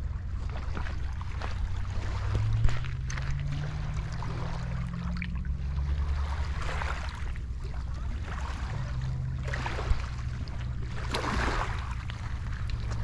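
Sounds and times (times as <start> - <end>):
clicks of water and stones: 0.0 - 13.0
low steady drone: 0.0 - 13.0
small waves lapping on pebbles: 0.0 - 13.0.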